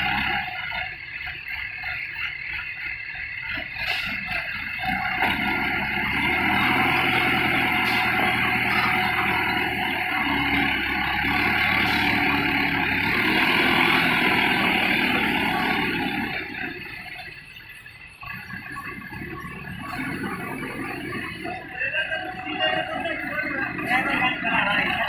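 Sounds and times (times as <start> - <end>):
forklift engine revving: 0.0 - 25.0.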